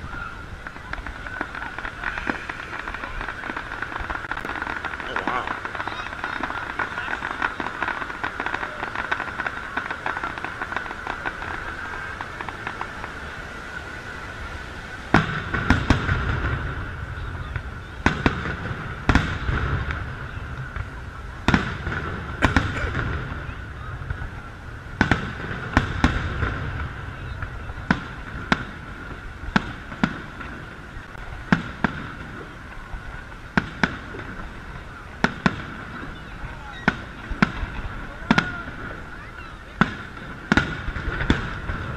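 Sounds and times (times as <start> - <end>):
fireworks crackling pops: 0.0 - 41.9.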